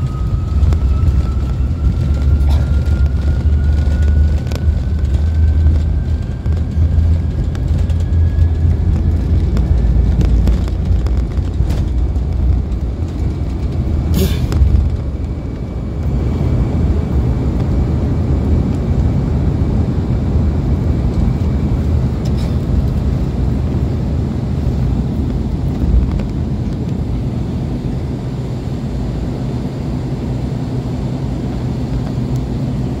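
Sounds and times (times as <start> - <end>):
jet engines at high power: 0.0 - 33.0.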